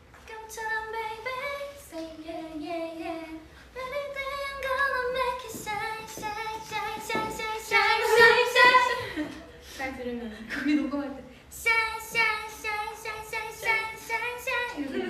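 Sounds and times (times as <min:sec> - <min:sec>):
young women singing: 0:00.2 - 0:09.5, 0:11.5 - 0:15.0.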